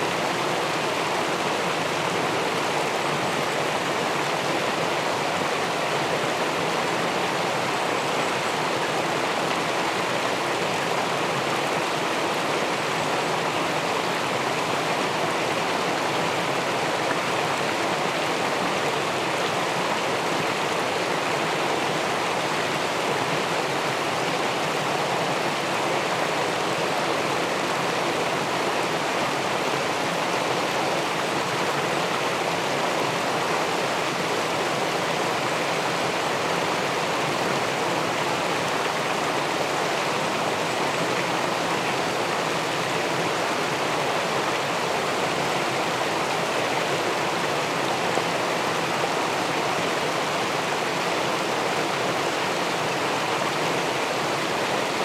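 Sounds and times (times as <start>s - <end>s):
river water rushing over weir: 0.0s - 55.0s.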